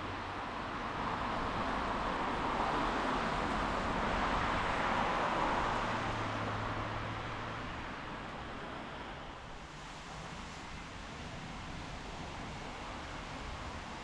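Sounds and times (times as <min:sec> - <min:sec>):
car tyres hissing on wet street: 0:01.6 - 0:14.0.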